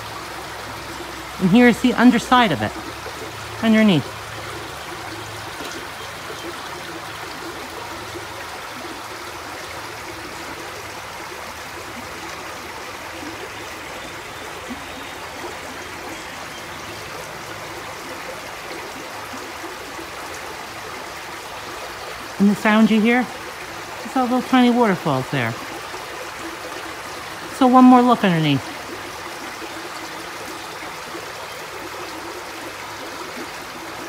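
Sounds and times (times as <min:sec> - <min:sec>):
creek water running over rocks: 0:00.0 - 0:34.0.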